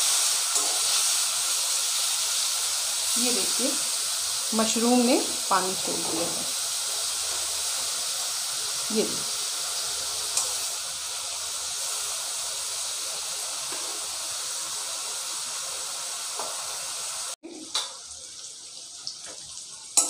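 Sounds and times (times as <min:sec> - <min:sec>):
mushrooms sizzling in oil: 0:00.0 - 0:20.0.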